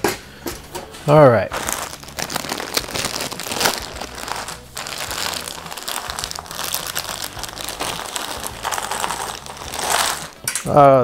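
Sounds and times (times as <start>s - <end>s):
plastic bag crinkling: 1.5s - 10.5s.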